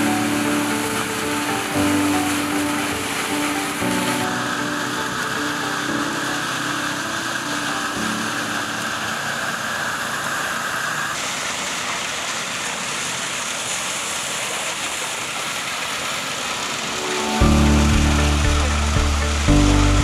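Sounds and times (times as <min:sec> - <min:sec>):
concrete discharging from hose: 0:00.0 - 0:20.0
concrete pump running: 0:00.0 - 0:20.0.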